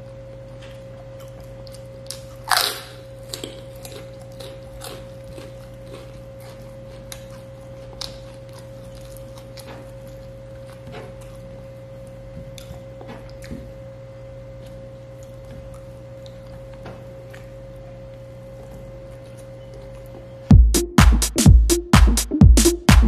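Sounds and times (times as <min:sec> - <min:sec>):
closed-mouth chewing: 0:00.0 - 0:13.8, 0:14.5 - 0:20.5
steady hum: 0:00.0 - 0:23.0.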